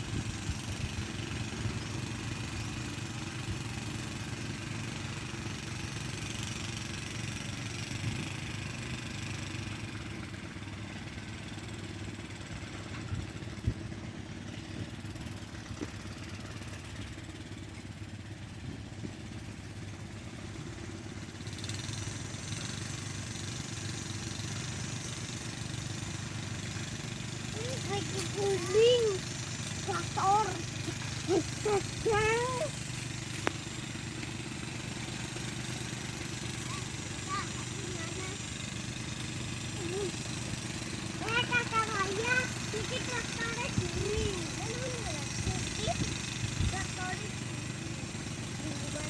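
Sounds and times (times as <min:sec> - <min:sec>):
tiller engine running: 0:00.0 - 0:49.0.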